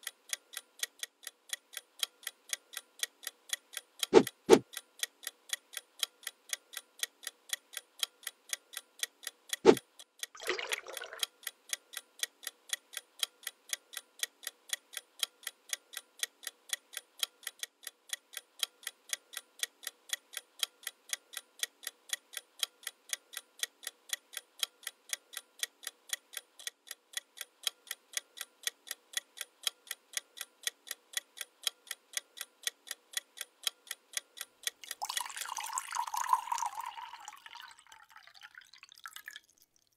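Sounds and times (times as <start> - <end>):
clock ticking: 0.0 - 38.7.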